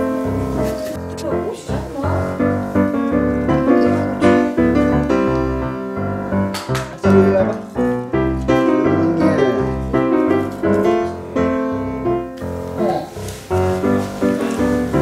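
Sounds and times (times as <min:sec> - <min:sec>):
bouncy piano music: 0:00.0 - 0:15.0.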